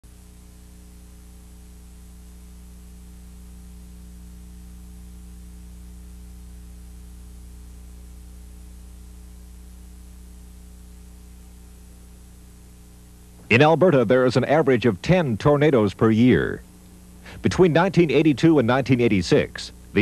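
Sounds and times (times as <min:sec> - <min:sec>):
electrical mains hum: 0:00.0 - 0:20.0
tape hiss: 0:00.0 - 0:20.0.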